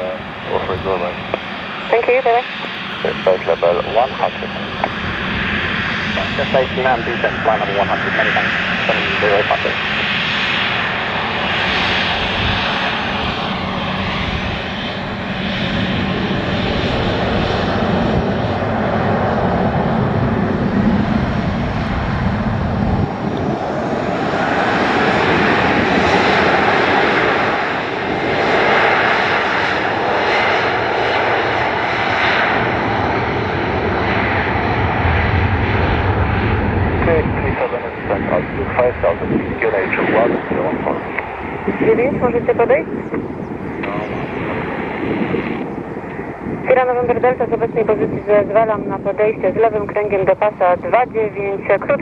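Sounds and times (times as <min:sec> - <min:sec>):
jet engines at takeoff power: 0:00.0 - 0:52.0.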